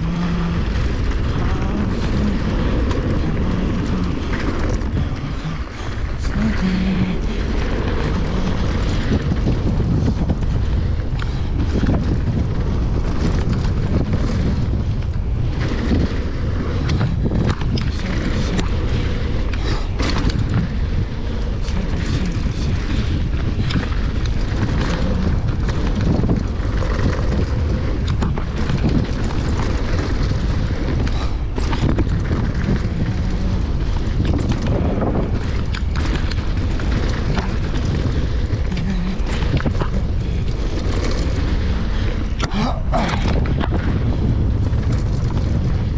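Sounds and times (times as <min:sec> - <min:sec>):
bike rattles and clicks: 0:00.0 - 0:45.9
bike tyre noise on dirt: 0:00.0 - 0:45.9
wind rumble on microphone: 0:00.0 - 0:45.9.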